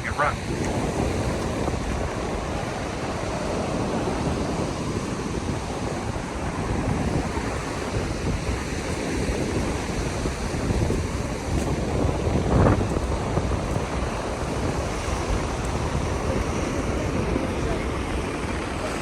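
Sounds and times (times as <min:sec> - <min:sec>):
ocean surf washing ashore: 0:00.0 - 0:19.0
wind buffeting microphone: 0:00.0 - 0:19.0.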